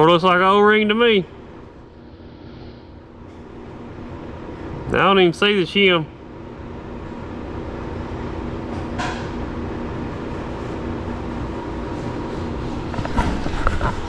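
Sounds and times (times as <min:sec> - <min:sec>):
machine humming: 0:00.0 - 0:14.0.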